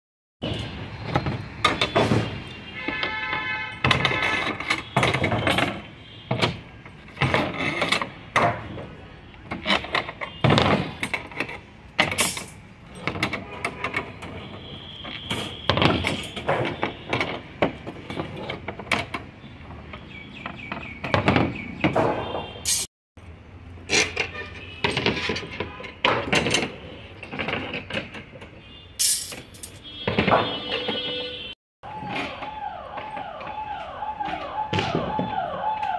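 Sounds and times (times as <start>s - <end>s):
steel bars knocking and clanking: 0.4s - 22.9s, 23.8s - 31.3s.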